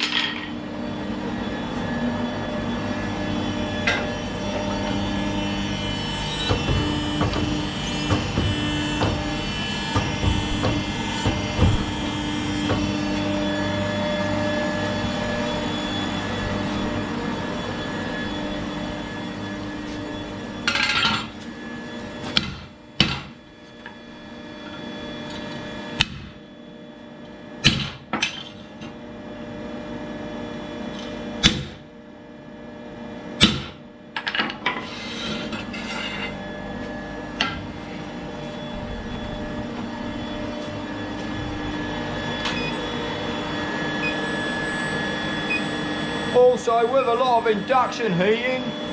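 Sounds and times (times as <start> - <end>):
electric machine hum: 0.0 - 48.9.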